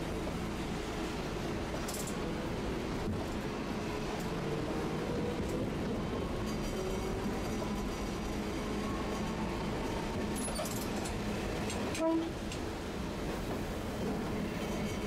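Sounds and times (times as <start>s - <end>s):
streetcar running noise: 0.0s - 15.0s.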